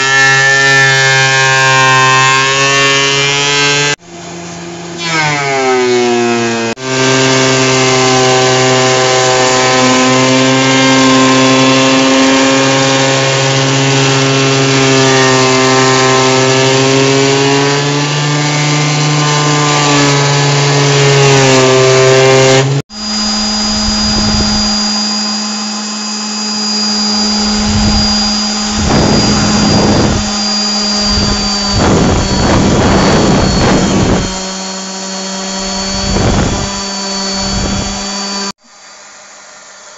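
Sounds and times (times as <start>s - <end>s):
orbital sander whining and rasping: 0.0s - 39.9s
thickness planer running: 0.0s - 39.9s.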